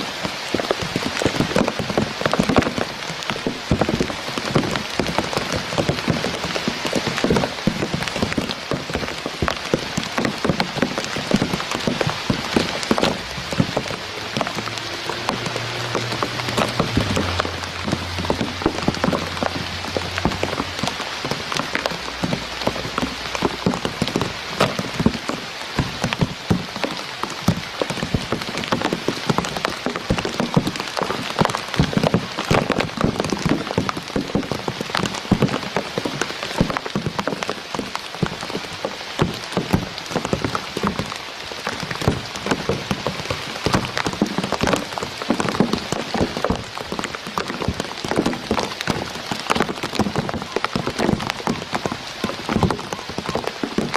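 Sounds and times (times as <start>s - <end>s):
steady rain pattering: 0.0s - 53.9s.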